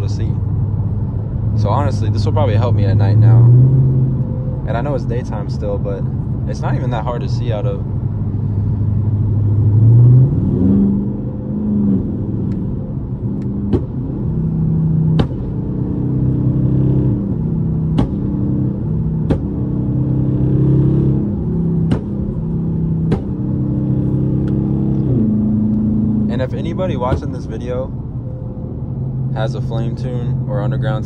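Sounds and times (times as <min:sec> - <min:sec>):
car engine under light throttle: 0:00.0 - 0:31.0.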